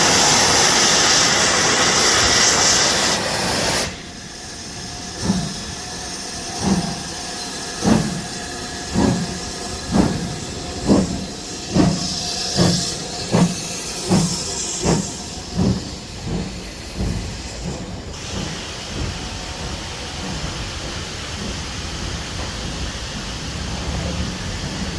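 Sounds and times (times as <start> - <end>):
steam hissing: 0.0 - 24.9
steam locomotive exhaust beats: 0.0 - 24.9.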